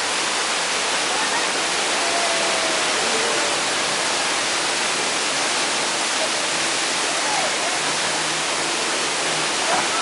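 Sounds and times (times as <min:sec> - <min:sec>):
loud rushing water: 0:00.0 - 0:10.0.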